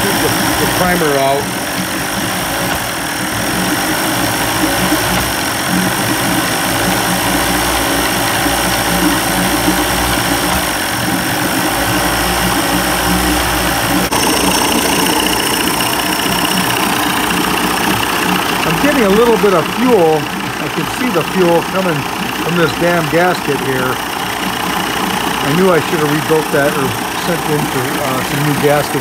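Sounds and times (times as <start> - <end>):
outboard engine idling: 0.0 - 29.0.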